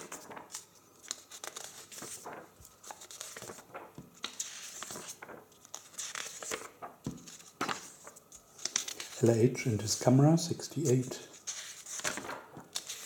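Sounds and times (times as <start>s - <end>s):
book pages turning: 0.0s - 13.0s.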